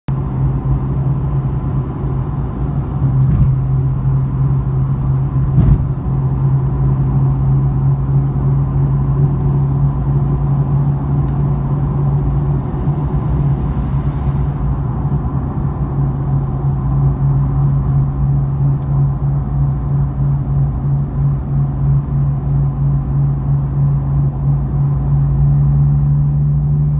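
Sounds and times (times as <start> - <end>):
car exhaust droning: 0.1 - 26.9.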